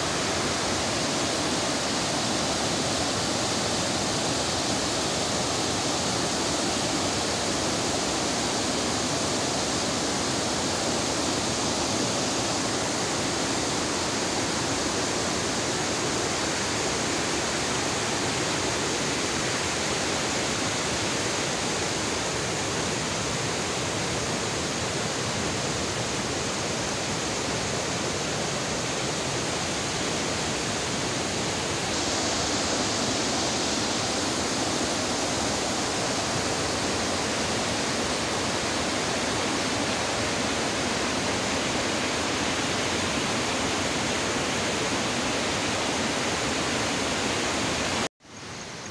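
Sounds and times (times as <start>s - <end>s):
river rushing over boulders: 0.0s - 48.9s.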